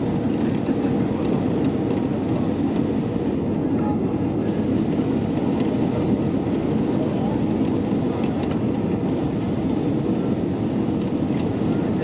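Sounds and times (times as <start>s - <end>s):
airflow rush in cabin: 0.0s - 12.0s
jet engines droning: 0.0s - 12.0s.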